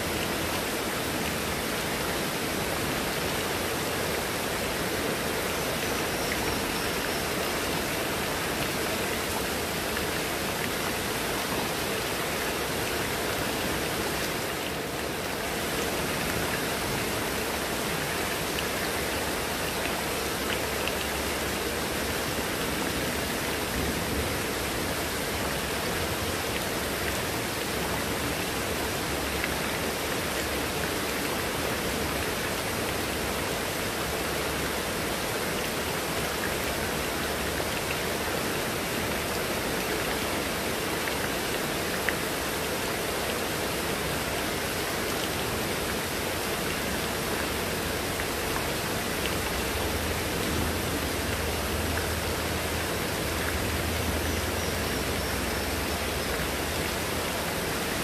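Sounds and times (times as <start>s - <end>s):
heavy rain on foliage: 0.0s - 58.0s.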